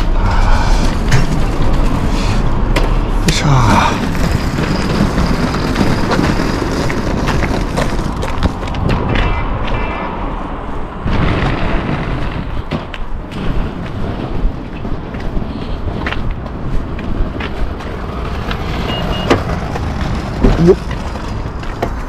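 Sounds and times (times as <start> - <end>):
street noise: 0.0 - 22.0
wind buffeting microphone: 0.0 - 22.0.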